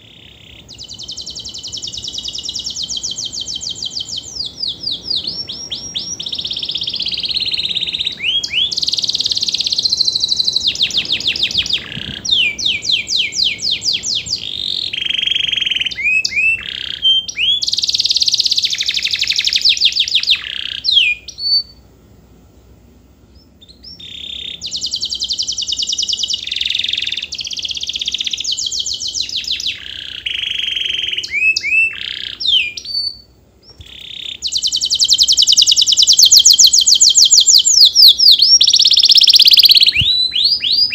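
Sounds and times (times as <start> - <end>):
canary singing: 0.0 - 21.9, 23.2 - 40.9.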